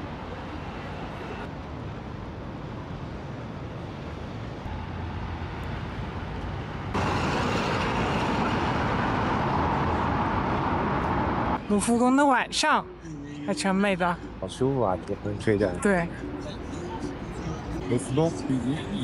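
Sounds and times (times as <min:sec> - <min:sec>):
city traffic noise: 0:00.0 - 0:19.0.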